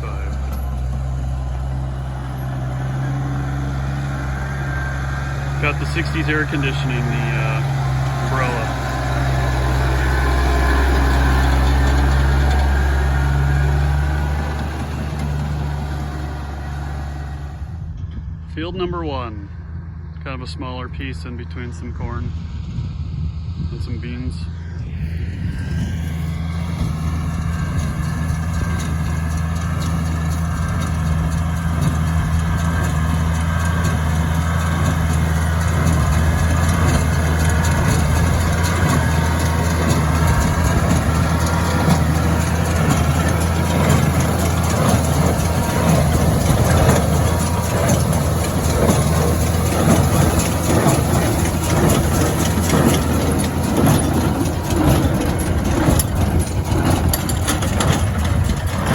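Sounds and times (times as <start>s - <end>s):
machinery clatter: 0.0s - 18.5s, 23.8s - 58.9s
tractor engine running: 0.0s - 58.9s.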